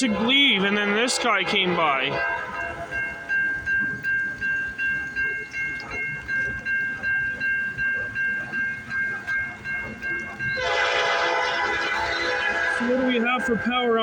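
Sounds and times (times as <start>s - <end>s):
level crossing warning bell ringing: 0.0s - 14.0s.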